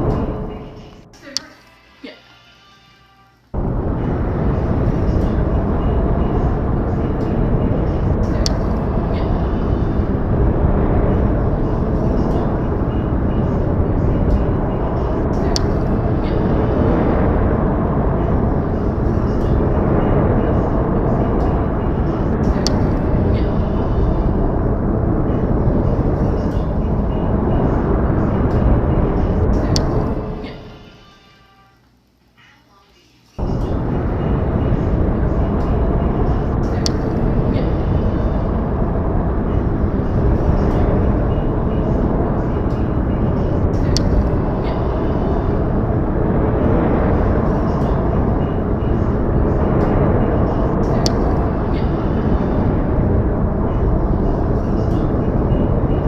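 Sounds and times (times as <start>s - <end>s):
wind buffeting microphone: 0.0s - 1.1s, 3.5s - 30.7s, 33.4s - 56.0s
dense low rumble: 0.0s - 1.2s, 3.5s - 30.9s, 33.4s - 56.0s.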